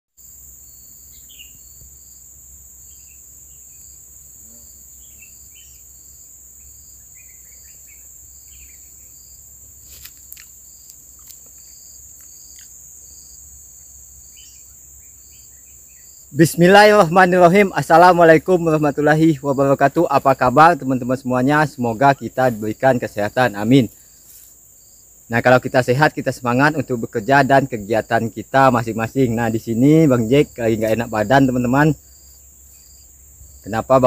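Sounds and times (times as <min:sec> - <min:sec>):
insects droning high-pitched: 0:00.2 - 0:34.0
pulsing insect chirp: 0:00.2 - 0:34.0.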